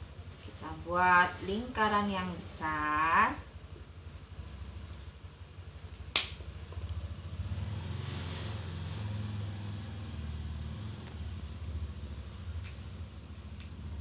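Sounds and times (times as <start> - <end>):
low mechanical rumble: 0.0 - 14.0.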